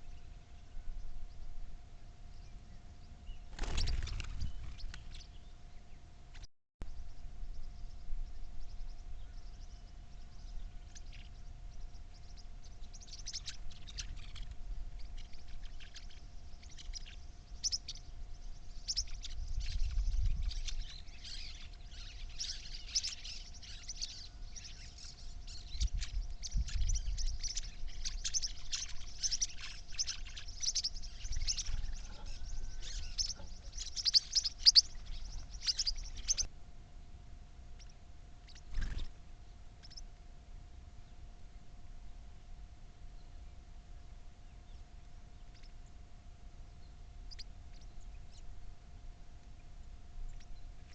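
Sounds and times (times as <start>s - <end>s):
small birds chirping: 0.0s - 36.5s, 37.7s - 40.2s, 43.1s - 46.0s, 46.6s - 50.9s
faint steady hum: 0.0s - 50.9s.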